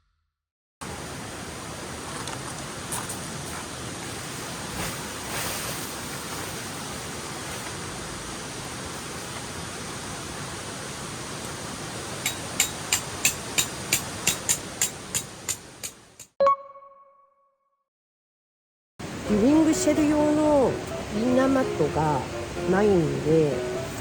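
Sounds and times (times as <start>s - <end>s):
river rushing: 0.8s - 16.1s, 19.0s - 24.0s.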